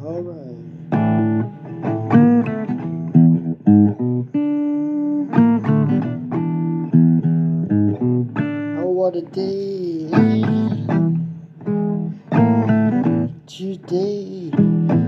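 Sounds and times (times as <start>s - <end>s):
blues guitar playing: 0.0s - 15.0s.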